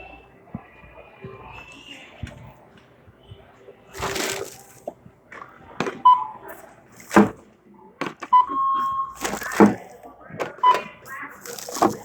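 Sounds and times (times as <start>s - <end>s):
goods and bags rustling: 1.3s - 12.0s.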